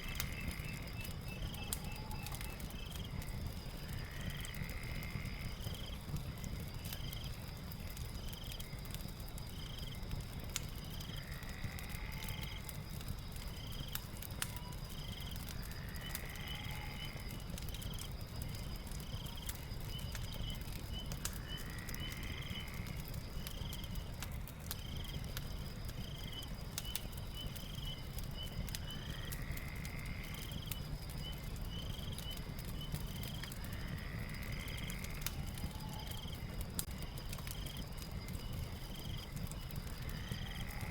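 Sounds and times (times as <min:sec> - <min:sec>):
fire crackling: 0:00.0 - 0:40.9
high insect trill: 0:00.0 - 0:40.9.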